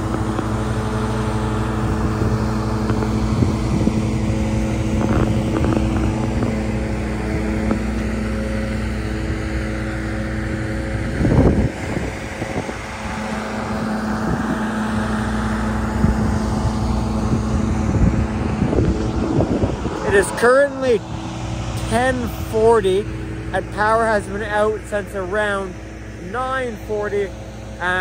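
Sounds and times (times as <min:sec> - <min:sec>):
loud rush of noise: 0:00.0 - 0:26.4
generator engine humming: 0:00.0 - 0:28.0.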